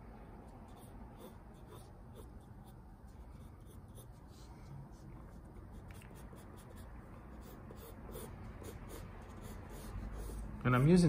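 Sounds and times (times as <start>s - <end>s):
pencil scratching on paper: 0.6s - 10.5s.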